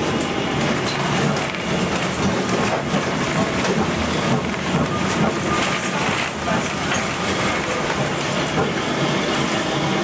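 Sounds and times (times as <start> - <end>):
tram wheels rumbling on rails: 0.0 - 10.0.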